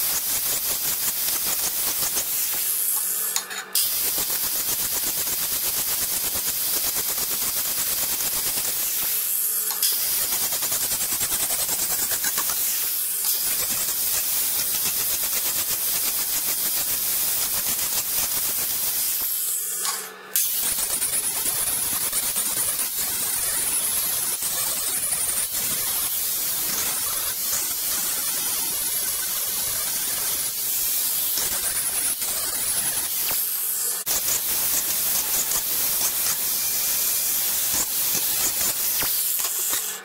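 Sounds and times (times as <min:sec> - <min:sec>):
angle grinder grinding metal: 0:00.0 - 0:04.9, 0:06.3 - 0:16.6, 0:17.4 - 0:40.0.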